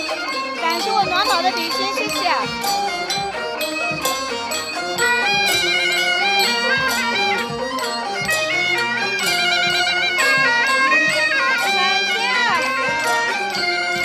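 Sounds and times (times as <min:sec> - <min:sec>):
music with high warbling melody: 0:00.0 - 0:14.0.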